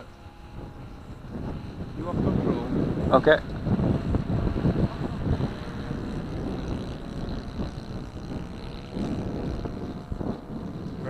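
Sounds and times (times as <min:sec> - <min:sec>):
distant model plane engine drone: 0:00.0 - 0:11.0
wind buffeting microphone: 0:00.0 - 0:11.0.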